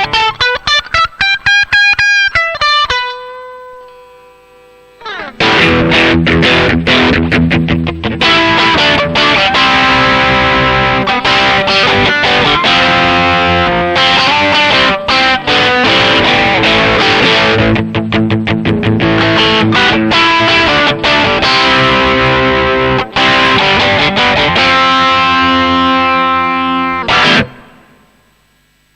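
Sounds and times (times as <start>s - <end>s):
electric guitar chords and riffs: 0.0s - 28.4s.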